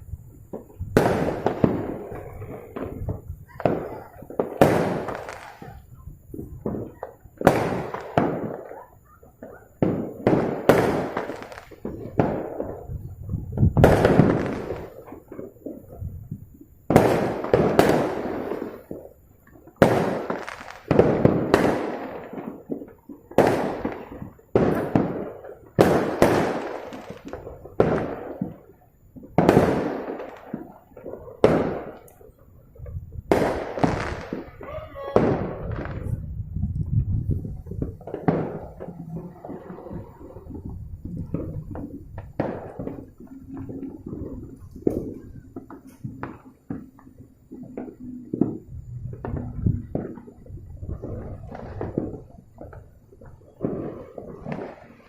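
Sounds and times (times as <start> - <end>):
fireworks bangs echoing: 0.0 - 55.0.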